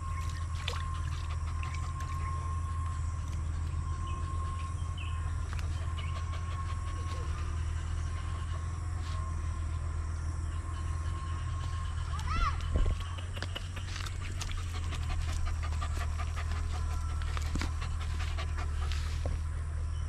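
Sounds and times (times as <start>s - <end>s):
low mechanical hum: 0.0s - 20.0s
thin constant whine: 0.0s - 20.0s.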